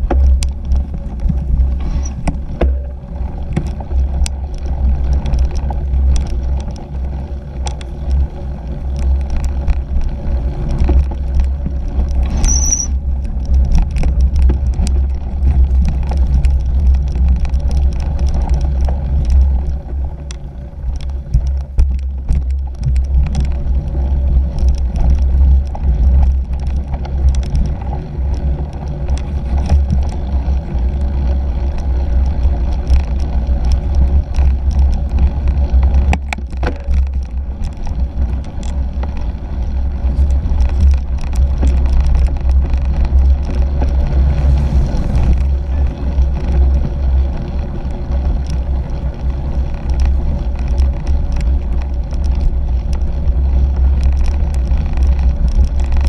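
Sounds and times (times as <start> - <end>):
bike rumbling over rough dirt: 0.0 - 56.0
small rattles and clicks: 0.0 - 56.0.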